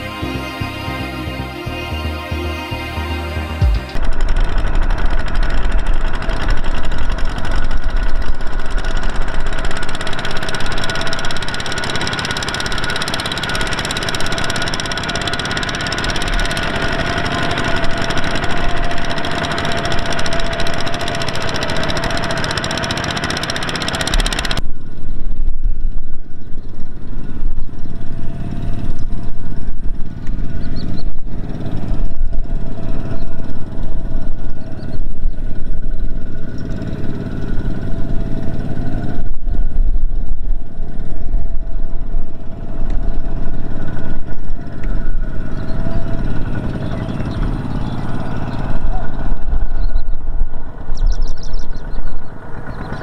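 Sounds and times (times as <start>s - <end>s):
diesel engines running under load: 0.0s - 25.1s, 26.2s - 53.0s.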